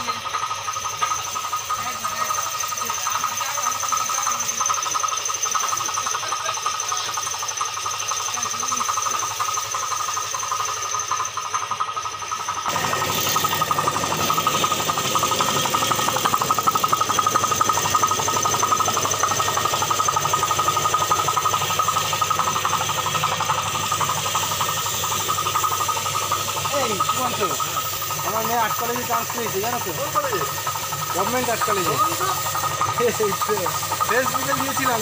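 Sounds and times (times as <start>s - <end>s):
machine motor droning with whine: 0.0s - 35.0s.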